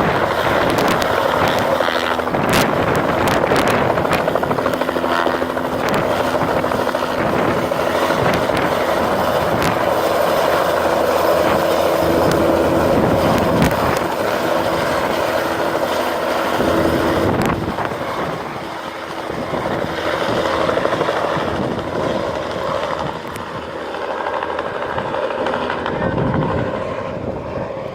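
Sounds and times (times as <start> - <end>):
helicopter rotor and engine: 0.0 - 27.9.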